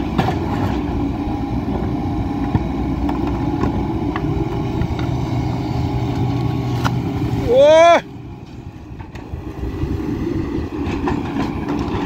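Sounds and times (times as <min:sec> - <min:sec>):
deeper steady engine note: 0:00.0 - 0:12.0
excavator diesel engine running: 0:00.0 - 0:12.0.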